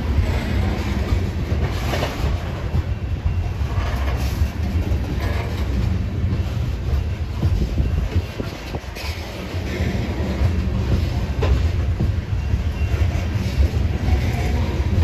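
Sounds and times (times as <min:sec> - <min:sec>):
freight wheels clattering: 0:00.0 - 0:15.0
steel wheels rumbling on rail: 0:00.0 - 0:15.0.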